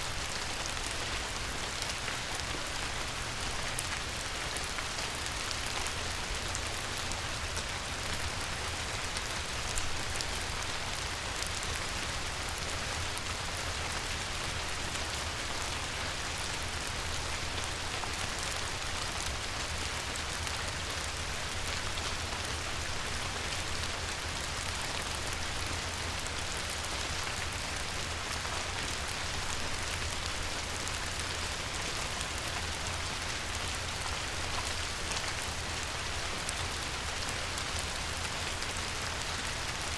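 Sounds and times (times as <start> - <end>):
rain pattering on water: 0.0 - 39.9.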